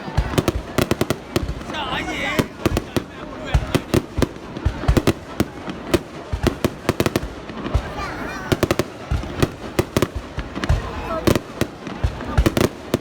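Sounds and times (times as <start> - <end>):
crowd voices: 0.0 - 13.0
fireworks banging: 0.0 - 13.0.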